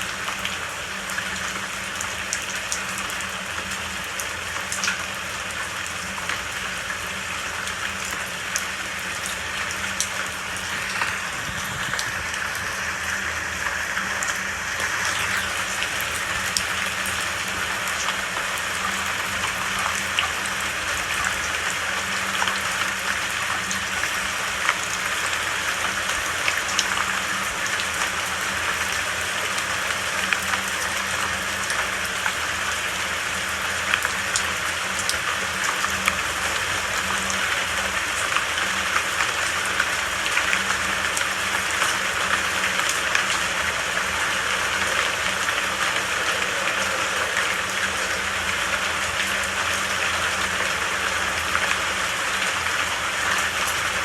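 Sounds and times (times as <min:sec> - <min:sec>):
rain falling: 0:00.0 - 0:54.0
raindrops ticking on surface: 0:00.0 - 0:54.0.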